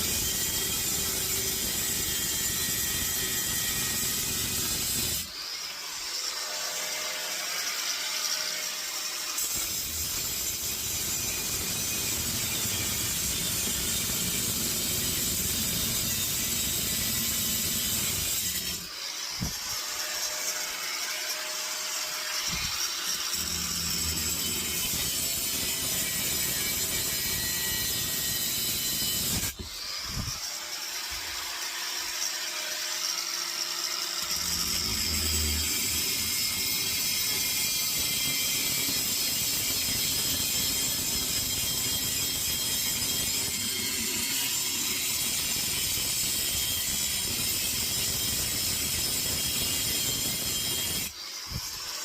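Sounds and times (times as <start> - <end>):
angle grinder cutting steel: 0.0 - 52.0.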